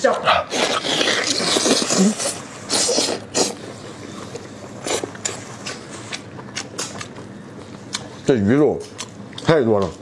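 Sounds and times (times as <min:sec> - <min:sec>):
wet mouth eating sounds: 0:00.5 - 0:10.0.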